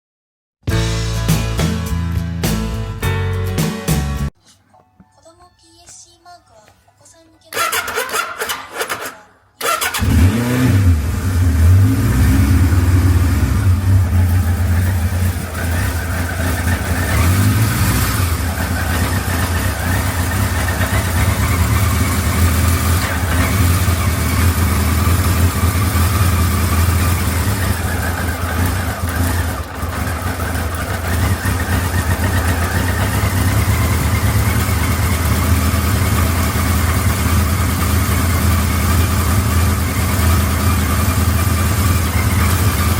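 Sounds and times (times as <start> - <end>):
motorcycle engine starting and idling: 7.5 - 42.9
engine clattering: 7.6 - 42.9.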